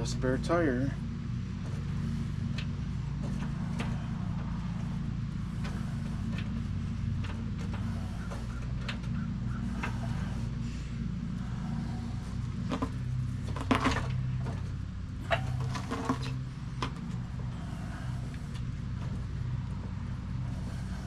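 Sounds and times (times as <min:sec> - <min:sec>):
low hum: 0:00.0 - 0:21.0
metal clicks and clanks: 0:01.6 - 0:10.6, 0:11.4 - 0:21.0.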